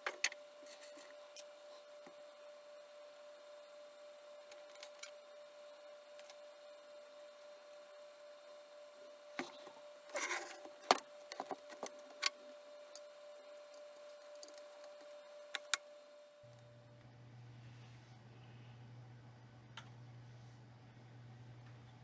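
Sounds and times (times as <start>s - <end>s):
faint steady whine: 0.0s - 18.8s.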